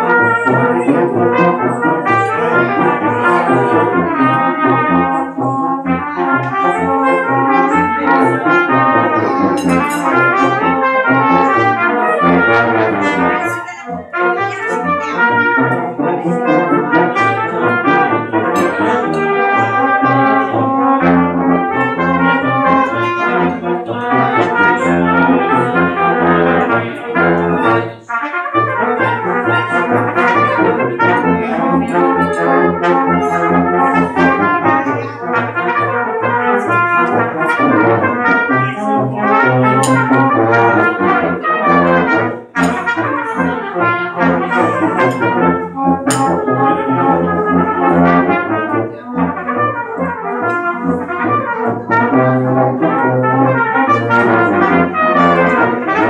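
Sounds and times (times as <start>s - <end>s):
brass band playing a march: 0.0s - 56.0s.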